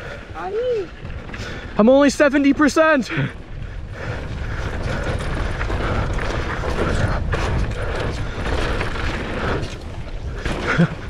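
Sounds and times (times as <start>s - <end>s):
mountain bike rattling over ground: 0.0s - 11.0s.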